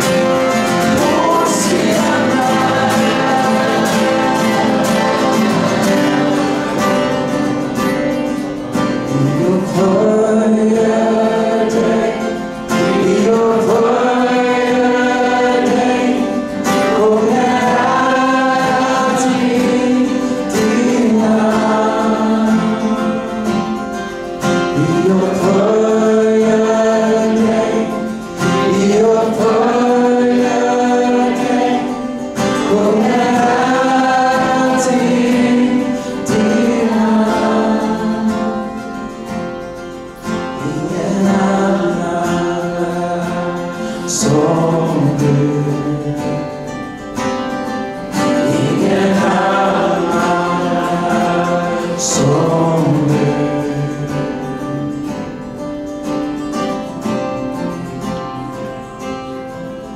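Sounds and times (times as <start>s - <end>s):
men singing into microphones: 0.0s - 7.4s, 9.0s - 39.6s, 40.4s - 46.8s, 47.8s - 55.2s
strummed acoustic guitars: 0.0s - 59.9s.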